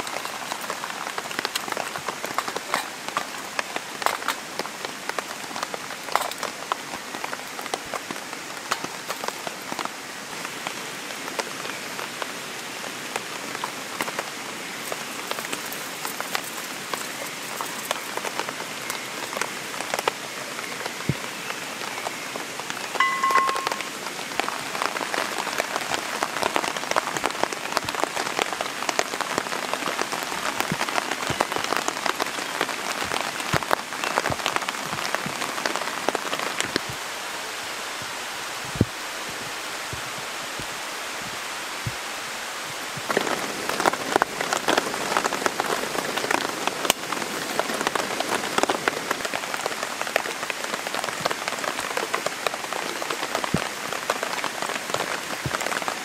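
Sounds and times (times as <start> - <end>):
rain hissing on foliage: 0.0 - 56.0
raindrops pattering on a tarp: 0.0 - 56.0.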